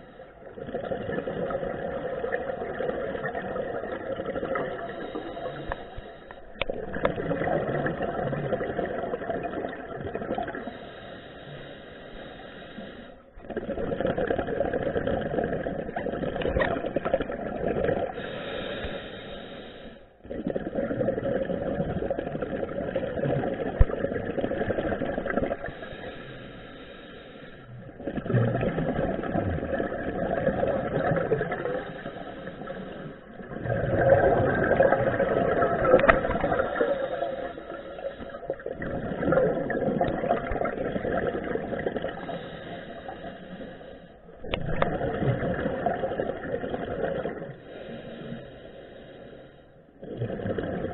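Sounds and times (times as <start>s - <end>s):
scuba regulator bubbling exhalations: 0.0s - 10.9s, 13.4s - 19.5s, 20.2s - 27.0s, 27.7s - 43.7s, 44.3s - 48.4s, 50.0s - 50.9s.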